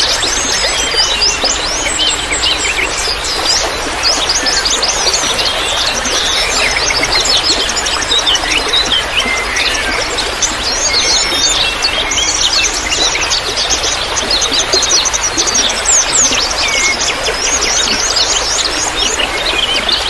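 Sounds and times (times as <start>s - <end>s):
running water trickling: 0.0s - 20.0s
small birds chirping: 0.0s - 20.0s.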